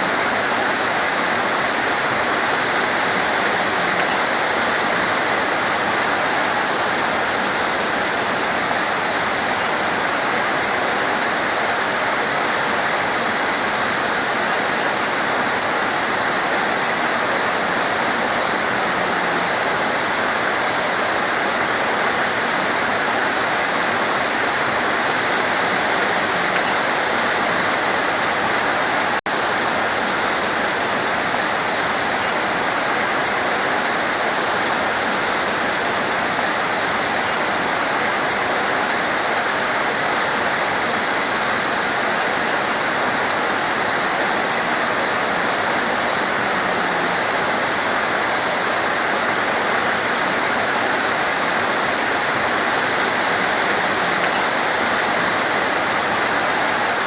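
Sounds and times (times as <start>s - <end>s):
heavy torrential rain: 0.0s - 57.0s.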